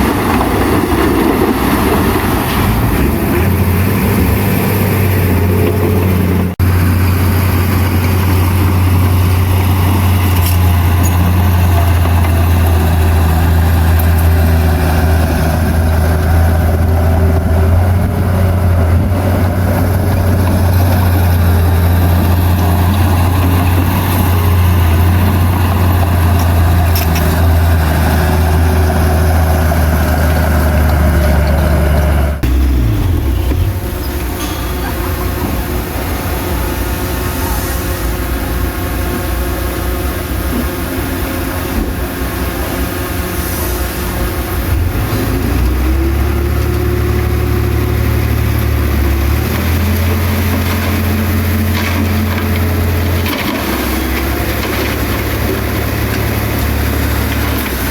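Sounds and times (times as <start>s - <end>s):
heavy diesel engine droning: 0.0s - 57.9s.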